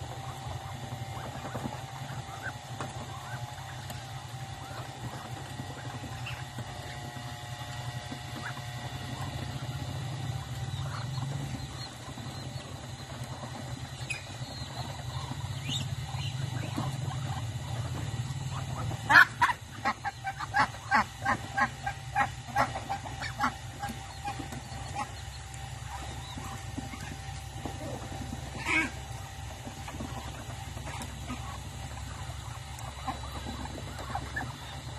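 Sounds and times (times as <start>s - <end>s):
ducks and chickens calling: 0.0s - 34.9s.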